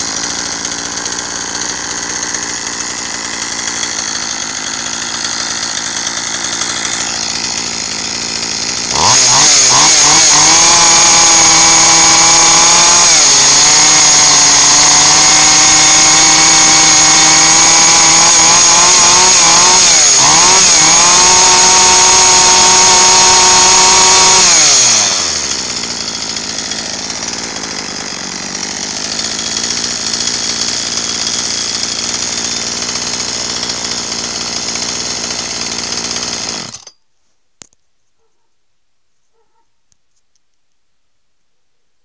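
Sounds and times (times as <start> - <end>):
chainsaw revving and idling: 0.0 - 36.9.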